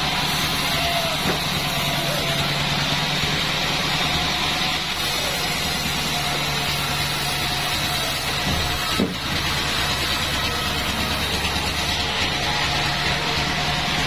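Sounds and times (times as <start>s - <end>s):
bandsaw machinery running: 0.0s - 14.0s.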